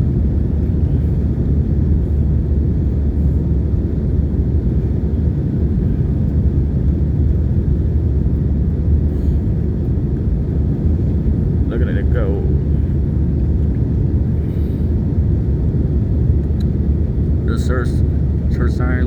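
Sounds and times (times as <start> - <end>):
airplane cabin drone: 0.0 - 19.0.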